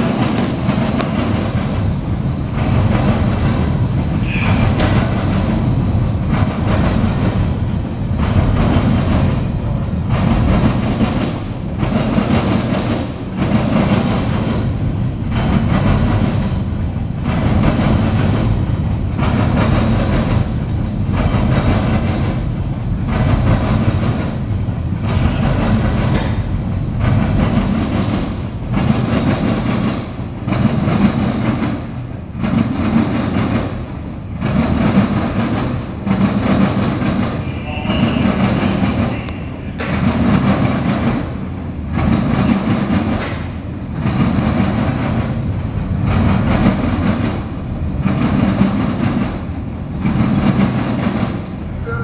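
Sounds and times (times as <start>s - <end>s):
clickety-clack over rail joints: 0.0s - 52.0s
freight train wheels on rail: 0.0s - 52.0s.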